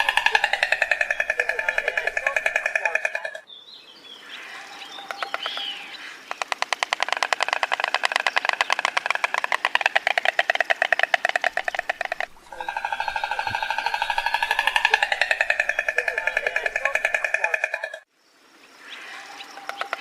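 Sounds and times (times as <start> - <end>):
stork clattering its bill: 0.0 - 3.4, 5.0 - 18.1.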